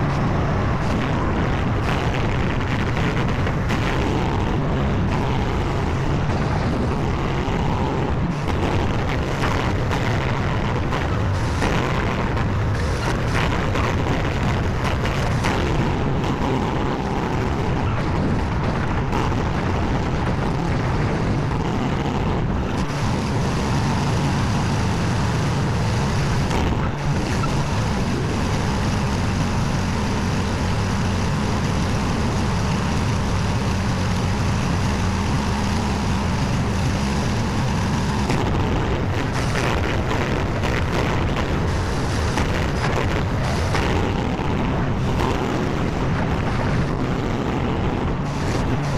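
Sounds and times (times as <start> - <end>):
skid steer engine running: 0.0 - 48.9.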